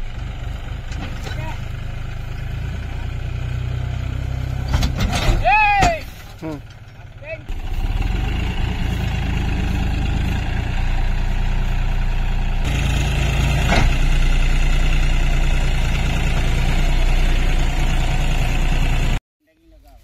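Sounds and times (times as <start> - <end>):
tractor diesel engine running: 0.0 - 19.2.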